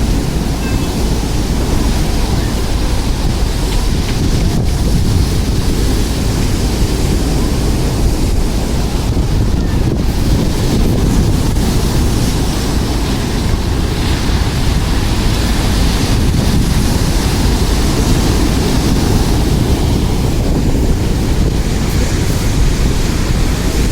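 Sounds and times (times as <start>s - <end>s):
surf breaking over pebble beach: 0.0s - 23.9s
wind buffeting microphone: 0.0s - 23.9s.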